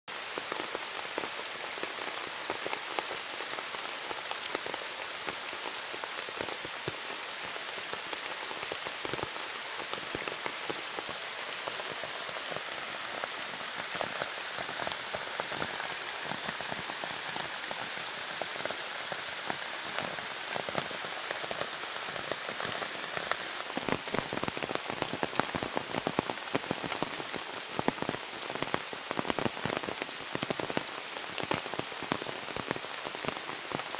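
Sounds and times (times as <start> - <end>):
steady rain pattering: 0.1 - 33.9.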